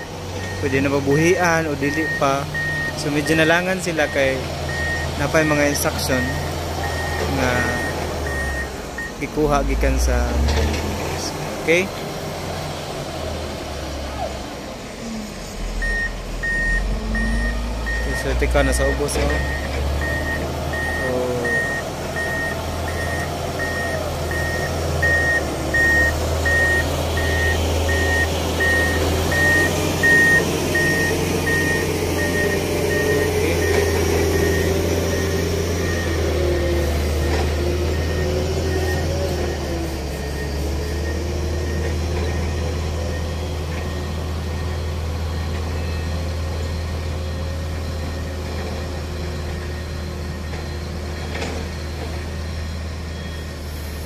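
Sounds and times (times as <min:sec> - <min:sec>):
back-up alarm beeping: 0:00.0 - 0:10.1, 0:15.7 - 0:51.8
heavy diesel machine droning: 0:00.0 - 0:54.0.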